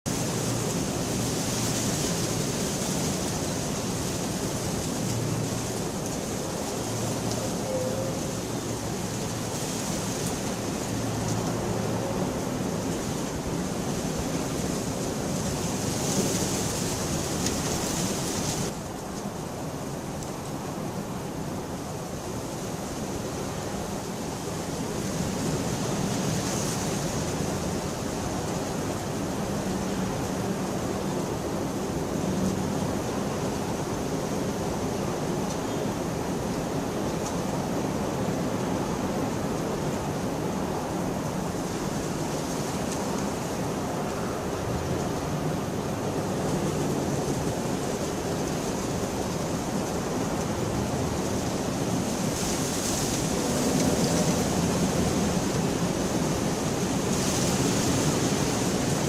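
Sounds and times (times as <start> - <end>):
rain falling: 0.1 - 21.0, 21.6 - 59.0.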